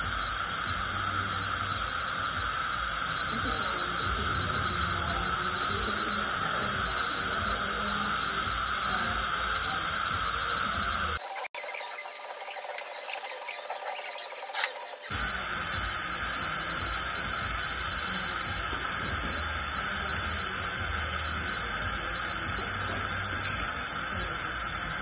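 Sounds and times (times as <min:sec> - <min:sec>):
dental suction hissing: 0:00.0 - 0:25.0.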